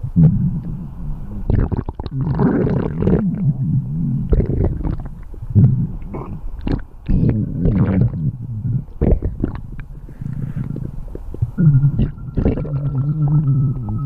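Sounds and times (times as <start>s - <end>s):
stomach growling: 0.1s - 14.0s
bubbling squelches: 1.3s - 14.0s.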